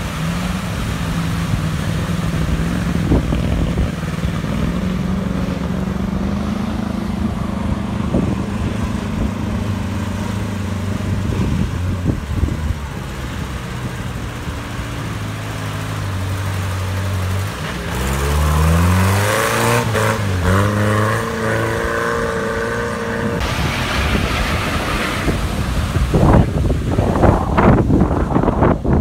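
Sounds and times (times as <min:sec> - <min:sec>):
water splashing: 0:00.0 - 0:28.8
off-road engines revving: 0:00.0 - 0:28.9.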